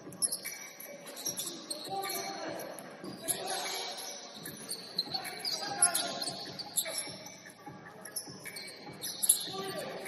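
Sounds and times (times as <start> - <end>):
sneaker squeaks on court: 0.0 - 10.0
players' voices: 0.9 - 10.0.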